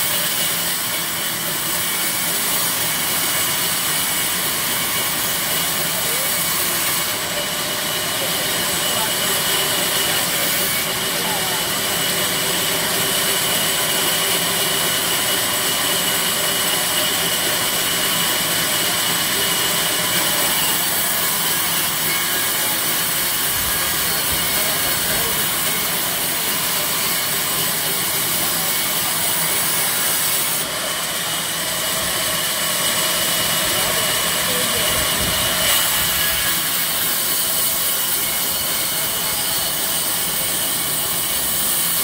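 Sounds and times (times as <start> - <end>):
band saw cutting wood: 0.0 - 42.0.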